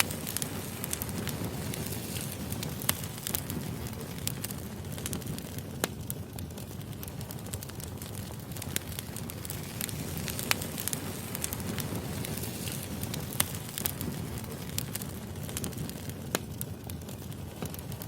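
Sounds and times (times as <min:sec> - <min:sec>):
logs crackling and popping: 0:00.0 - 0:18.0
low rush of flame: 0:00.0 - 0:18.0.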